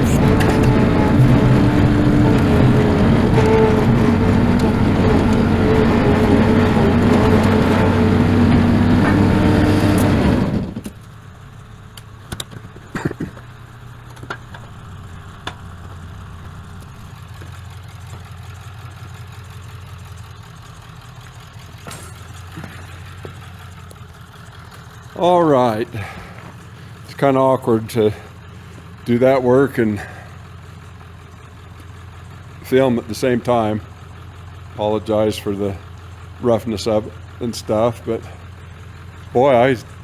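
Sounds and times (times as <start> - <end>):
engine revving then idling: 0.0 - 40.0.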